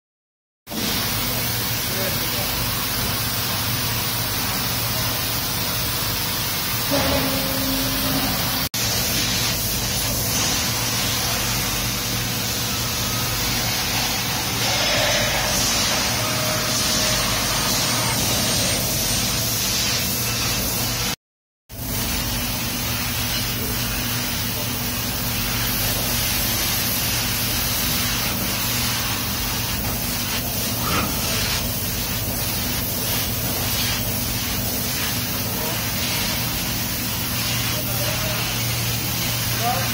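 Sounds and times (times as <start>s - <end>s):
laser cutter hiss: 0.7s - 39.9s.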